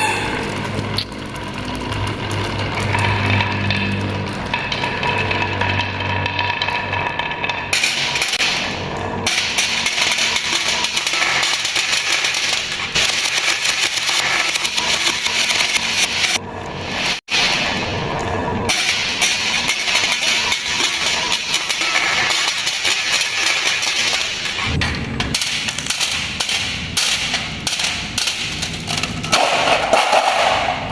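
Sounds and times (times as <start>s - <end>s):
balls clattering down wooden marble run: 0.6s - 16.4s, 18.7s - 30.9s.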